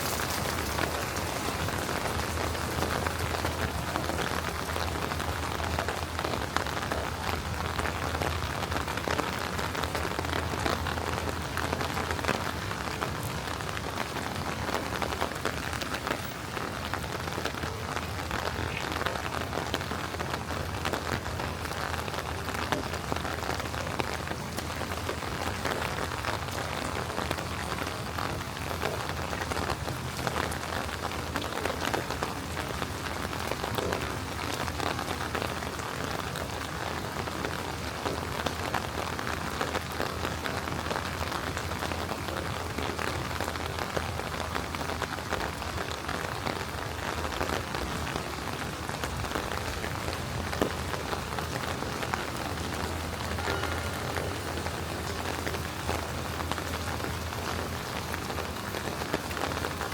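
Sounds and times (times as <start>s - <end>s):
rain on hard surfaces: 0.0s - 59.9s.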